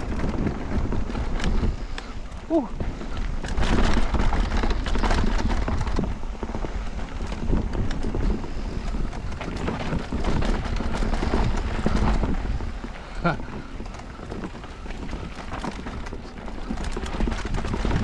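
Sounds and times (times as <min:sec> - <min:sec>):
bike rattling and knocking: 0:00.0 - 0:18.0
tyres rumbling on dirt: 0:00.0 - 0:18.0
wind on microphone: 0:00.0 - 0:18.0.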